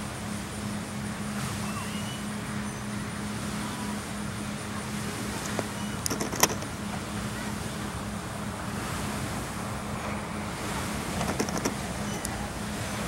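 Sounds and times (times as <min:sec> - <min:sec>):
distant motorboat engine droning: 0:00.0 - 0:13.0.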